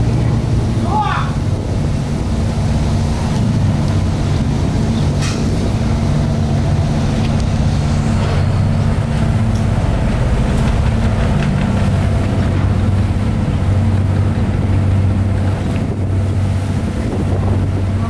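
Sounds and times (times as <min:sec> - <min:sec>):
ship diesel engines droning: 0:00.0 - 0:18.0
wake rushing: 0:00.0 - 0:18.0
wind: 0:00.0 - 0:18.0.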